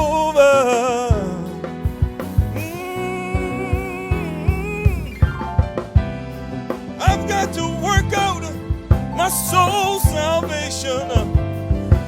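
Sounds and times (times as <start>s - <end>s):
drum kit steady beat: 0.0s - 12.0s
gospel singing: 0.0s - 12.0s.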